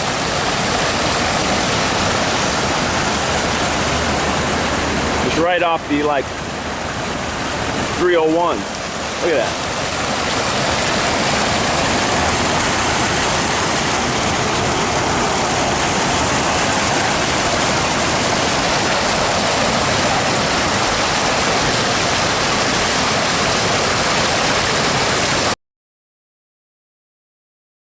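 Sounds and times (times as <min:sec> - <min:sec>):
small waterfall pouring: 0:00.0 - 0:25.6.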